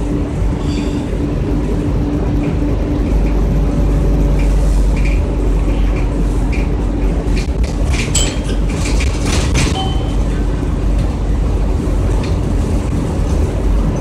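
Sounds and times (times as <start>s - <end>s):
bus engine and road rumble: 0.0s - 14.0s
rattles and clicks: 1.1s - 14.0s.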